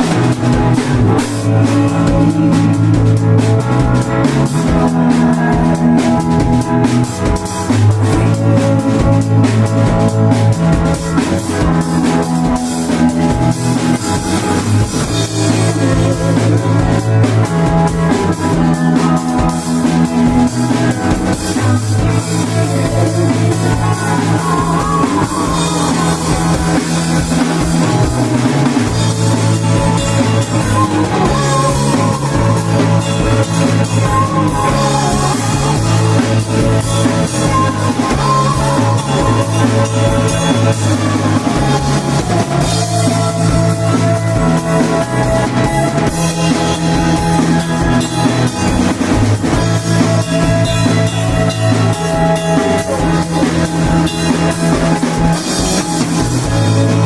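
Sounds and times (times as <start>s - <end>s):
drum kit beat: 0.0s - 57.0s
electric guitars: 0.0s - 57.0s
low bass notes: 0.0s - 57.0s.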